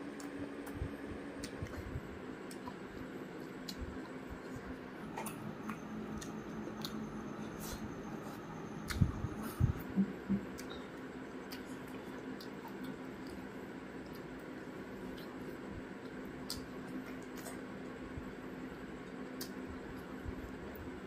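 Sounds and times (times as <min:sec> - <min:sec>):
wet chewing and lip smacking: 0:00.0 - 0:17.8.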